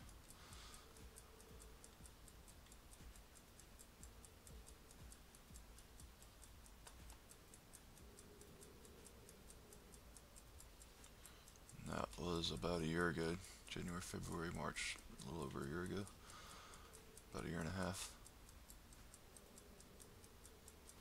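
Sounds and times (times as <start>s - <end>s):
rapid mechanical ticking: 0.0s - 21.0s.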